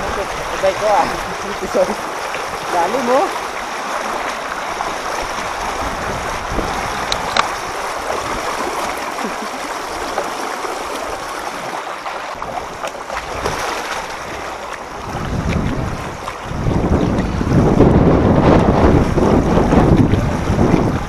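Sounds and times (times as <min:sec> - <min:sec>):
floodwater rushing and splashing: 0:00.0 - 0:21.0.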